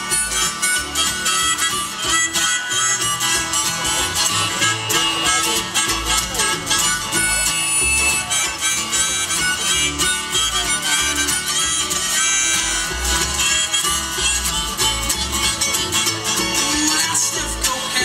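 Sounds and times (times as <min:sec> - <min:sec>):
harmonica lead: 0:00.0 - 0:18.0
mandolin: 0:00.0 - 0:18.0
strummed acoustic guitars: 0:00.0 - 0:18.0
upright bass: 0:00.0 - 0:18.0.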